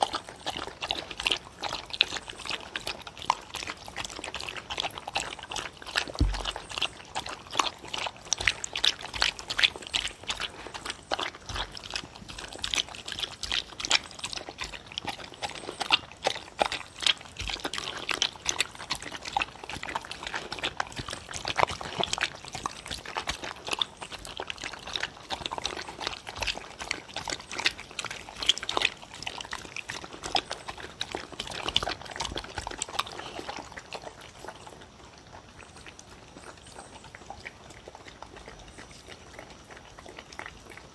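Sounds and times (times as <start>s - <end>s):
dogs chewing and slurping: 0.0s - 40.9s
mouth and tongue clicks: 0.0s - 40.9s.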